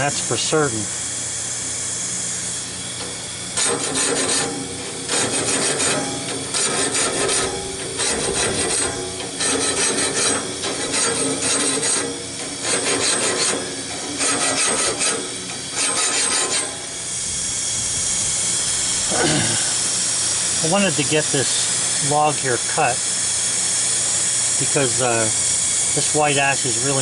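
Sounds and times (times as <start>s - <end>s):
rasping grinding strokes: 1.6s - 27.0s
hand grinder grinding blade: 1.7s - 27.0s.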